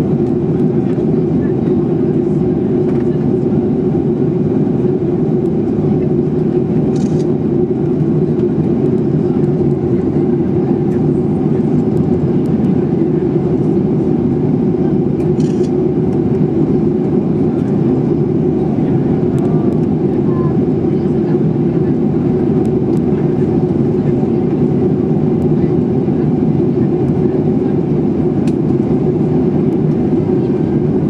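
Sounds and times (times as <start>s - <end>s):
airplane cabin drone: 0.0s - 31.0s.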